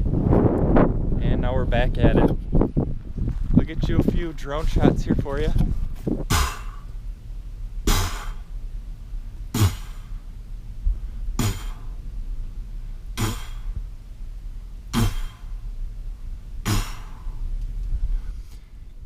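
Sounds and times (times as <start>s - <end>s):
steady low bass: 0.0s - 19.0s.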